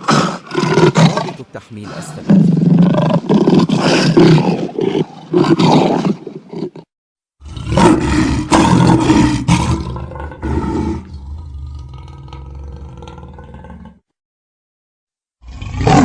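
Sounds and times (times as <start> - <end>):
lion roaring: 0.0 - 6.8, 7.4 - 14.0, 15.4 - 16.0.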